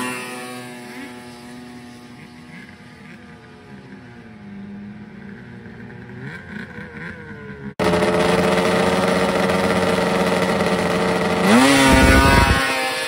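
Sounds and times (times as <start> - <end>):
faint snowmobile engines revving: 0.0 - 13.0
snowmobile engine running loud: 0.0 - 13.0.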